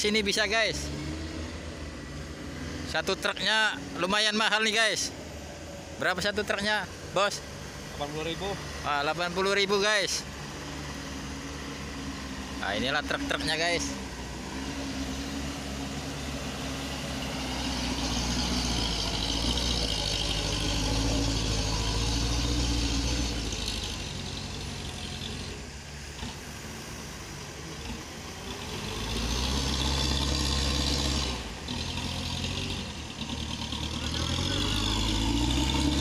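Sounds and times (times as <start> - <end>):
dump truck diesel engine: 0.0 - 36.0.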